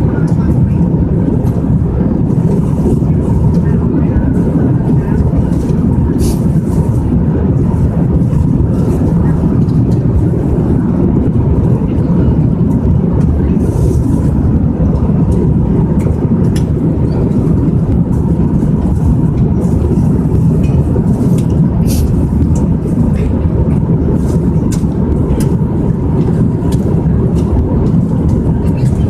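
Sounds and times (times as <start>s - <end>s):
airliner cabin roar: 0.0s - 29.0s.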